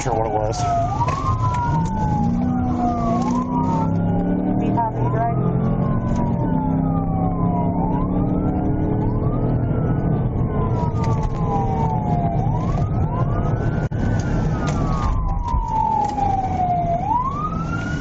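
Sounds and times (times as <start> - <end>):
police siren wailing: 0.0 - 18.0
road noise: 0.0 - 18.0.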